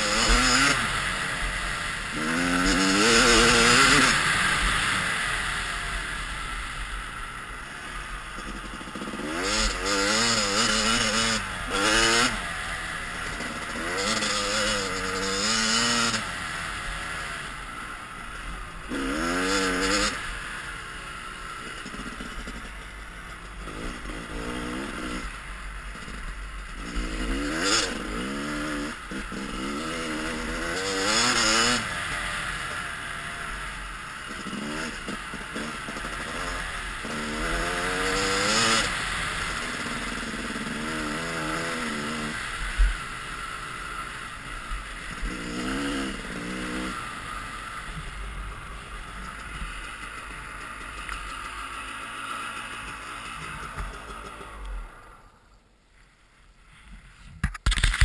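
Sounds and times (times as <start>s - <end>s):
dirt bike engine revving: 0.0s - 55.5s.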